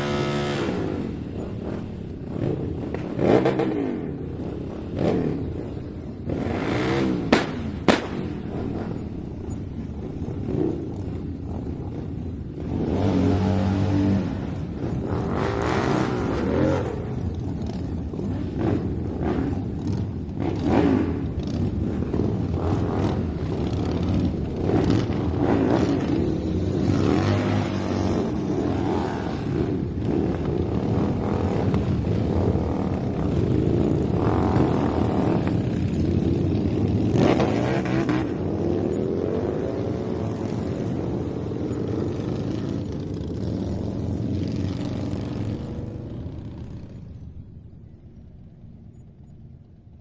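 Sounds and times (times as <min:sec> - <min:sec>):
motorcycles passing by: 0:00.0 - 0:50.0.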